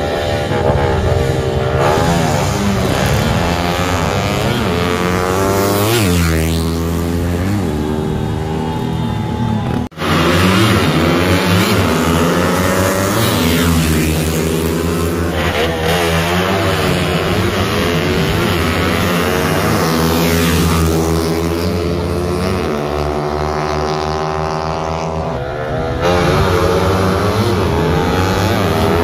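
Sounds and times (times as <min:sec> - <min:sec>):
motorcycles revving: 0:00.0 - 0:29.0.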